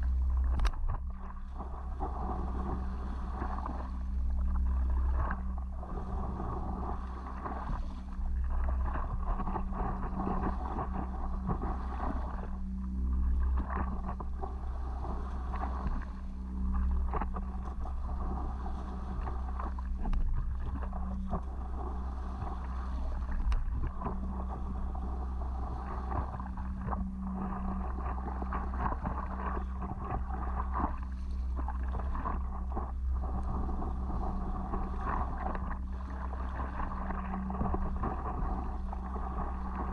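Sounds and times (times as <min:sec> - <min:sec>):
low hum: 0:00.0 - 0:39.9
paddle strokes in water: 0:00.0 - 0:39.9
water sloshing: 0:00.0 - 0:39.9
wind on microphone: 0:00.0 - 0:39.9.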